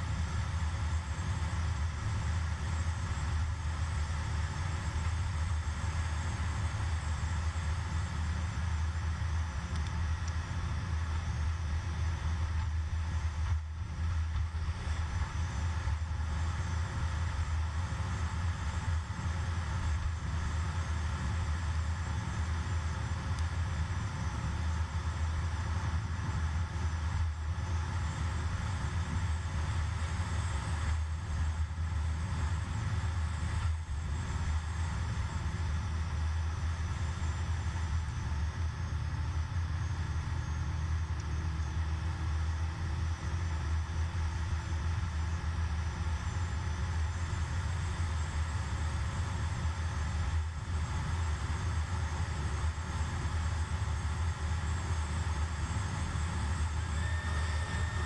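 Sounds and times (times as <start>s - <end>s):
car engine and road drone: 0.0s - 58.0s.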